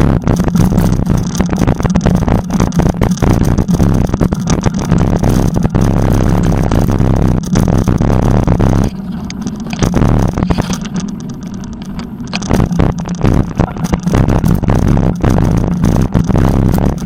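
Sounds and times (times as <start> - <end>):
bike rattling on bumpy path: 0.0 - 17.0
wind rumbling on microphone: 0.0 - 17.0.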